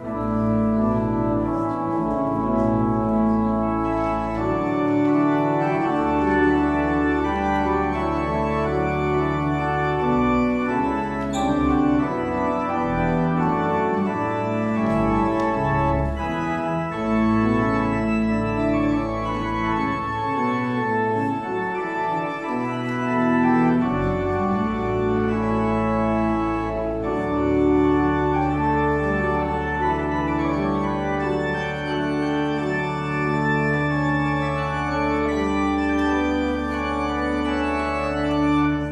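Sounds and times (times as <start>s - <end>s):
church organ chords: 0.0s - 38.9s
deep organ pedal bass notes: 0.0s - 38.9s.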